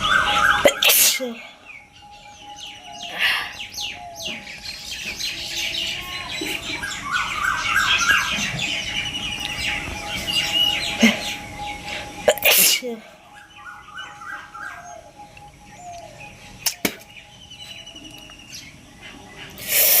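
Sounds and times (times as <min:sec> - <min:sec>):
birds chirping in chorus: 0:00.0 - 0:20.0
faint steady tone: 0:00.0 - 0:20.0.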